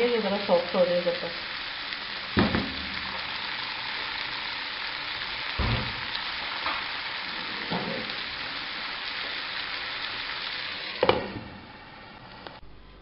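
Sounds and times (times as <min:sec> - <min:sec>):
food sizzling in a frying pan: 0:00.0 - 0:12.5.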